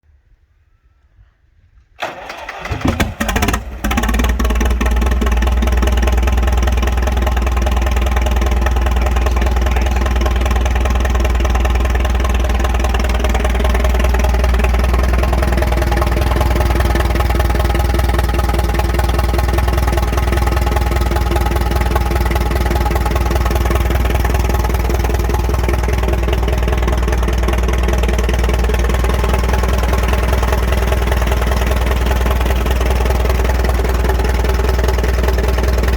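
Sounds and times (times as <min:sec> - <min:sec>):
tractor engine idling: 0:02.0 - 0:35.9.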